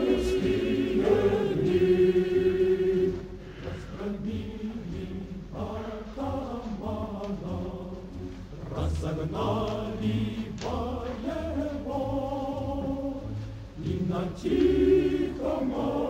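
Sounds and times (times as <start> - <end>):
voices singing held notes: 0.0 - 16.0.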